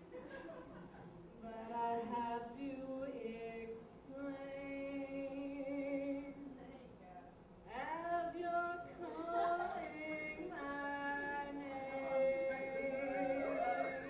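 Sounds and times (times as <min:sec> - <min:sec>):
woman singing unaccompanied: 0:01.4 - 0:06.8, 0:07.7 - 0:14.0.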